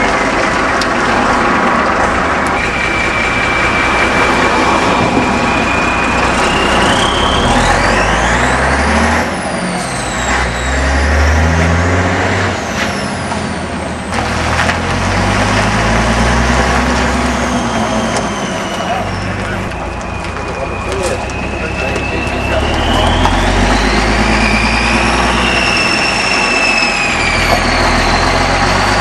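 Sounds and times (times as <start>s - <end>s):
diesel truck engine revving: 0.0s - 29.0s
high sliding whistling tones: 2.3s - 29.0s.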